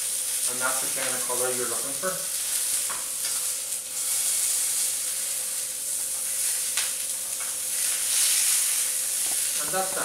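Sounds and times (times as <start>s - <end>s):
meat sizzling in frying pan: 0.0s - 10.0s.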